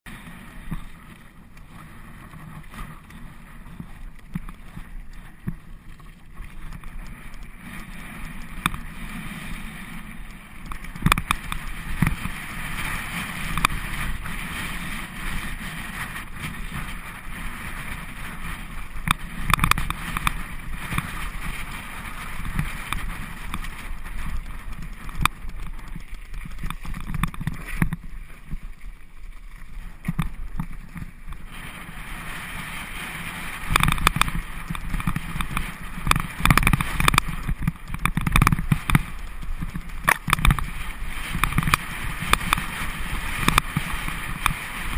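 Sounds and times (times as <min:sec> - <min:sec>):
bike knocking and rattling: 0:00.1 - 0:31.9, 0:33.0 - 0:44.9
bike tyres crunching on gravel: 0:00.1 - 0:44.9
wind on microphone: 0:00.1 - 0:44.9.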